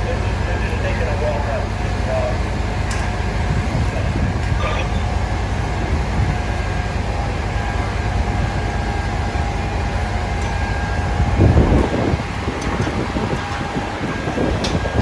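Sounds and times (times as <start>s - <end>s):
faint steady whine: 0.0s - 15.0s
street traffic rumble: 0.0s - 15.0s
wind gust on microphone: 0.0s - 15.0s.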